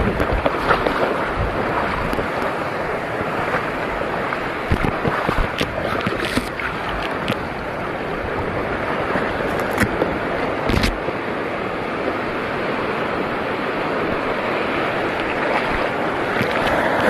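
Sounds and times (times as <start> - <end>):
sea water splashing: 0.0 - 17.0
wind on microphone: 0.0 - 17.0.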